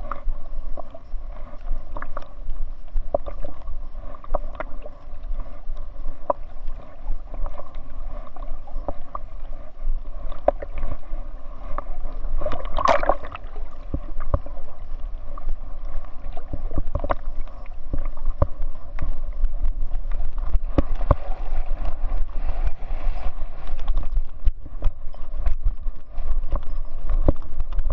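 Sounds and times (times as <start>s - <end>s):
low rumble: 0.0s - 27.9s
muffled water sloshing and splashing: 0.0s - 27.9s.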